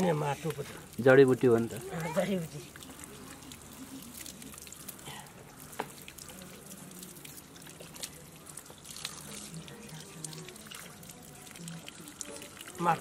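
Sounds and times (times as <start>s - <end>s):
small water splashes: 0.0s - 13.0s
water running from a hose: 0.0s - 13.0s.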